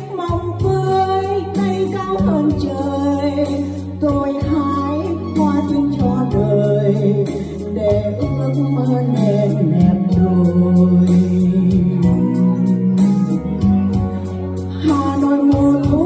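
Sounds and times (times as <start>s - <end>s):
electronic keyboard bass notes: 0.0s - 16.0s
woman singing a slow ballad: 0.0s - 16.0s.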